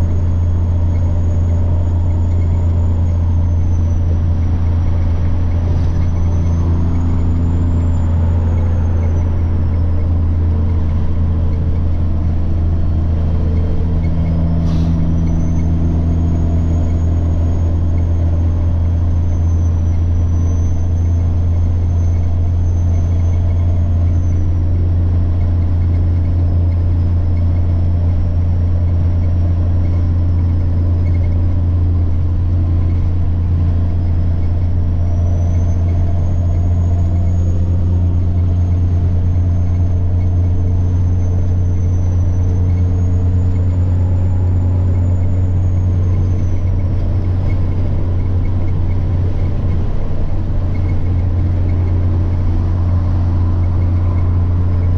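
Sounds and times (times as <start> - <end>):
diesel truck engine droning: 0.0 - 54.9
turbocharger whine: 0.0 - 54.9.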